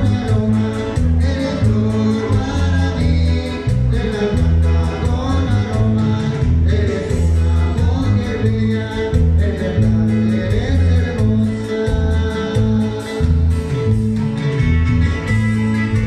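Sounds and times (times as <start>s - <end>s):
loud music with bass and guitar: 0.0s - 16.0s.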